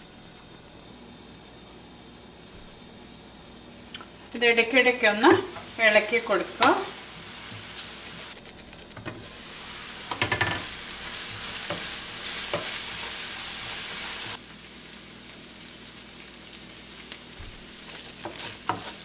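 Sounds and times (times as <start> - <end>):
onions sizzling in pan: 2.9 - 19.0.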